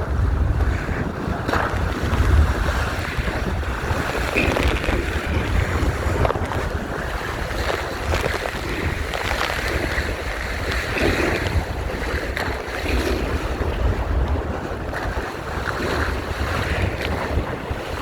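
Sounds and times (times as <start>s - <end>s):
water splashing against hull: 0.0s - 18.0s
wind buffeting microphone: 0.0s - 18.0s.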